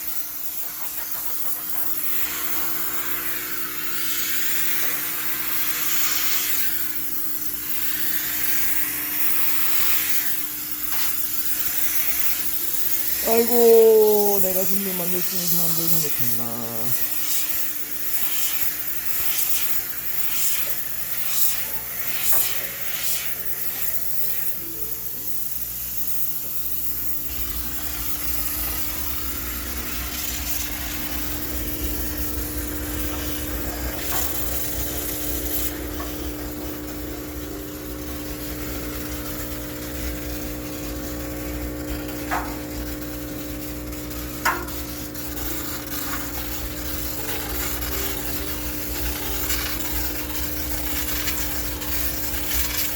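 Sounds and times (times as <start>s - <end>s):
steam cleaner hissing: 0.0s - 52.9s.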